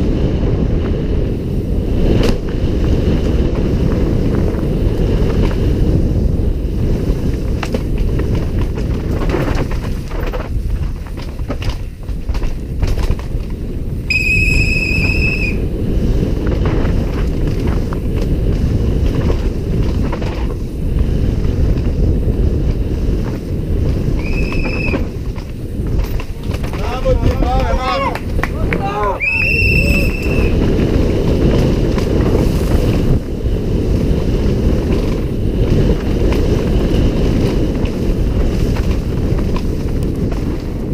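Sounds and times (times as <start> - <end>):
bike knocking and rattling: 0.0 - 40.9
tyres rumbling on dirt: 0.0 - 40.9
wind buffeting microphone: 0.0 - 40.9.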